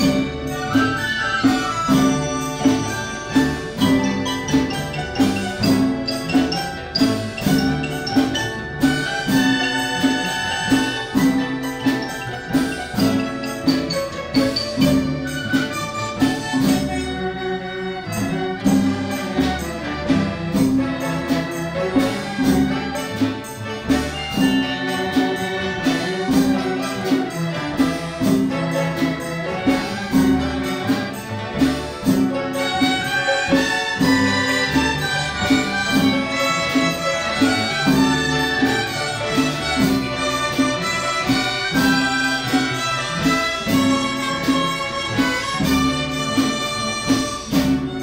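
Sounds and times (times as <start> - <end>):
bowed strings: 0.0 - 48.0
drums: 0.0 - 48.0
mallet percussion: 0.0 - 48.0.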